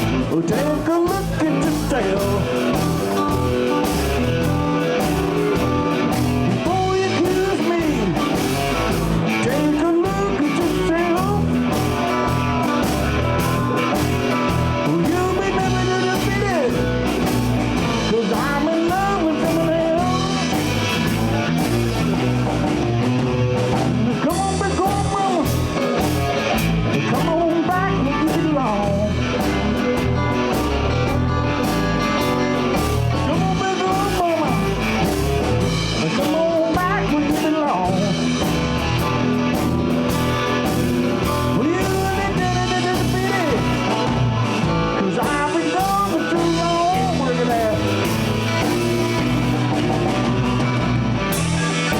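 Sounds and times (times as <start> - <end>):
bass: 0.0 - 51.9
drum kit: 0.0 - 51.9
electric guitar lead: 0.0 - 51.9.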